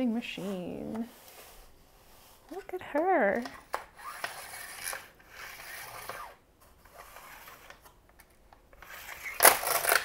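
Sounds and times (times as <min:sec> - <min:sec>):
knitting machine carriage scraping: 0:00.1 - 0:07.8, 0:08.8 - 0:10.0.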